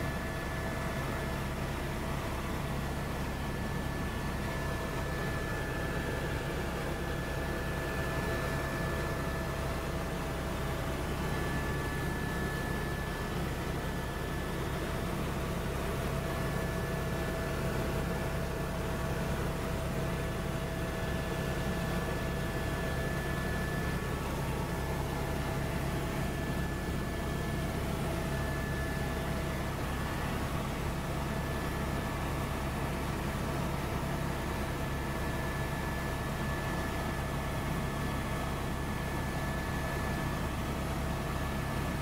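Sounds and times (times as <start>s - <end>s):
helicopter rotor and engine drone: 0.0s - 42.0s.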